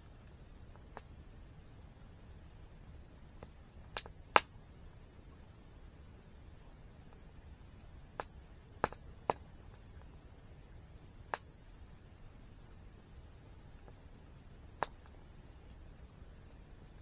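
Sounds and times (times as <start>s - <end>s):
faint high-pitched hum: 0.0s - 17.0s
wood fire crackling: 0.0s - 17.0s.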